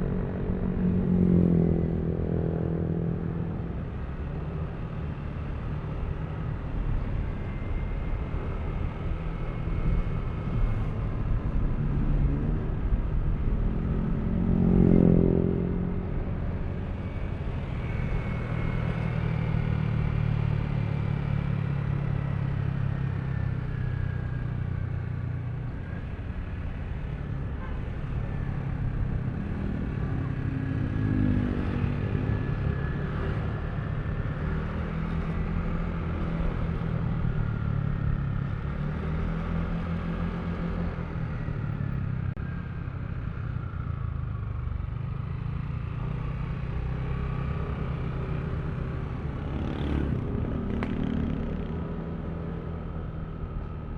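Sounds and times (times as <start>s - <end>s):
road and tyre noise: 0.0s - 53.9s.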